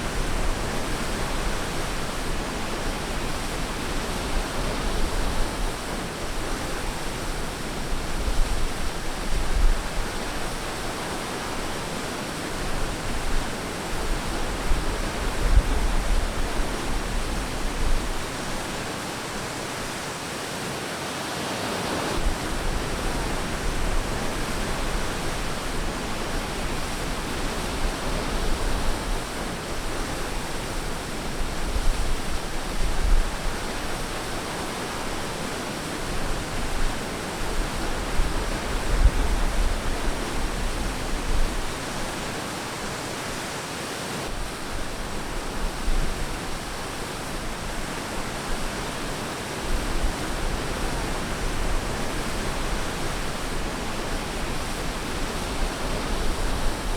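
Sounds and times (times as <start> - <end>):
ocean waves washing on beach: 0.0 - 56.9.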